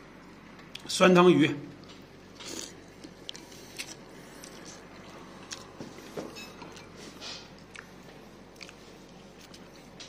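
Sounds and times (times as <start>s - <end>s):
man chewing food: 1.8s - 10.0s.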